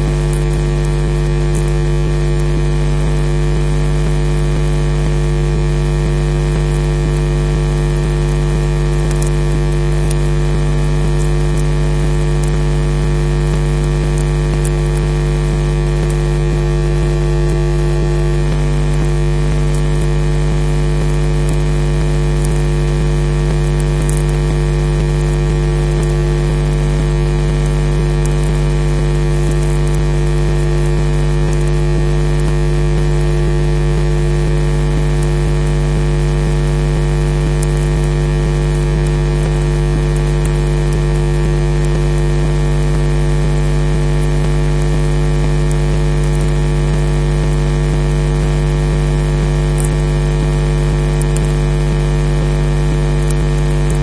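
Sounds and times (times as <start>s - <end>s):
electrical hum with hiss: 0.0s - 54.0s.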